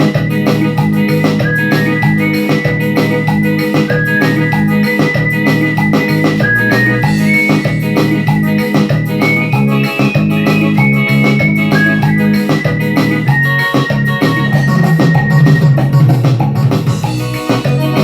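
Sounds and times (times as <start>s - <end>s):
bass notes: 0.0s - 18.0s
organ-like synth melody: 0.0s - 18.0s
programmed beat: 0.0s - 18.0s.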